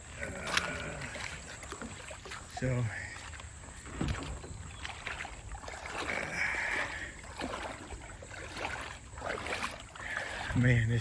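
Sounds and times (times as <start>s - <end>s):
rush of water: 0.0s - 11.0s
water splashing around kayak: 0.0s - 11.0s.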